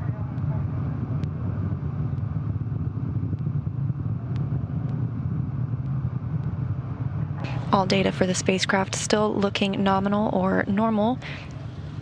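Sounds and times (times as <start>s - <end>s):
distant rocket engine rumble: 0.0s - 12.0s.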